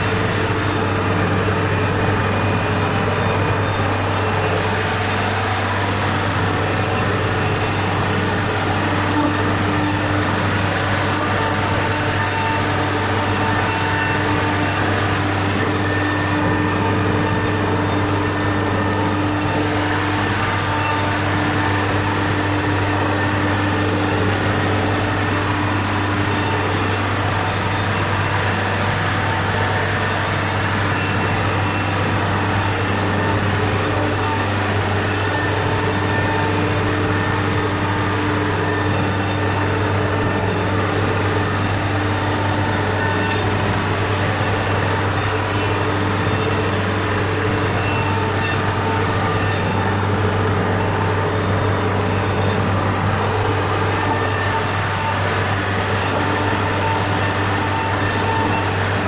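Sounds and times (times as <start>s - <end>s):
cnc router cutting: 0.0s - 59.0s.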